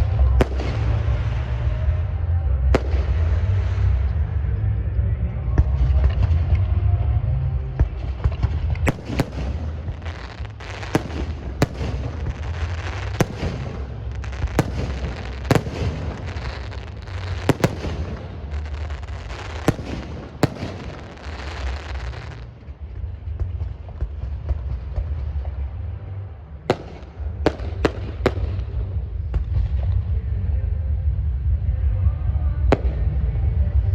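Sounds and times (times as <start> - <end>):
fireworks bangs: 0.0 - 4.5, 5.6 - 30.3
fireworks crackling: 0.0 - 4.5, 5.6 - 30.5
low rumble: 0.0 - 33.9.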